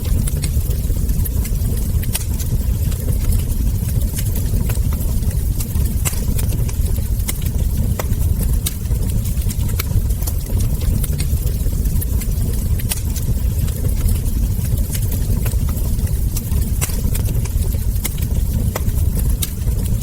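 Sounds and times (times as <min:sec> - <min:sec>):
steady low rumble: 0:00.0 - 0:20.0
wood fire crackling and popping: 0:00.0 - 0:20.0.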